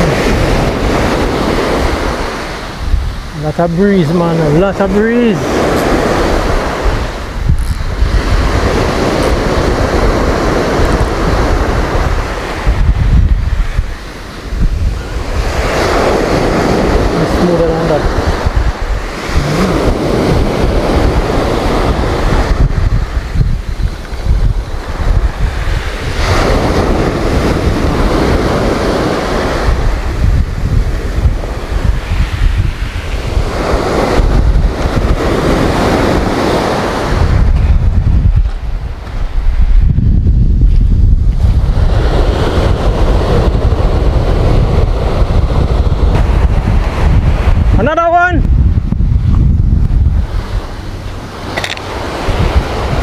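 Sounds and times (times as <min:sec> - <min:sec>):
surf breaking on beach: 0:00.0 - 0:53.0
wind buffeting microphone: 0:00.0 - 0:53.0.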